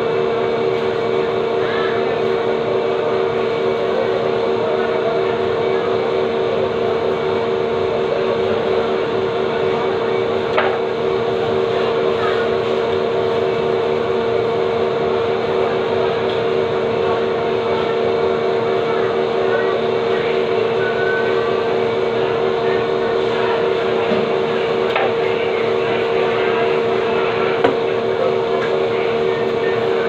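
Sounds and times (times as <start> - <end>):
loud mechanical hum: 0.0 - 30.0.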